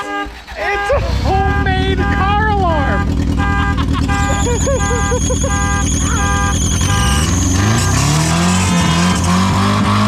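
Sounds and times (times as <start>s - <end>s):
car horns beeping in rhythm: 0.0s - 9.4s
car engine idling and revving: 0.0s - 10.0s.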